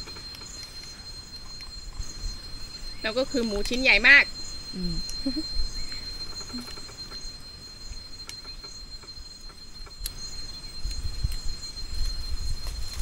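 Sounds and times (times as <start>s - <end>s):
insects whining and chirping: 0.0s - 13.0s.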